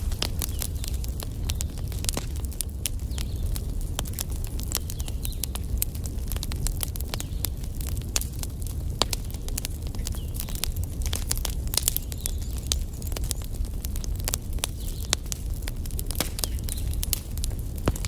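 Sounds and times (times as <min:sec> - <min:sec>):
logs crackling and popping: 0:00.0 - 0:18.0
wood fire burning: 0:00.0 - 0:18.0.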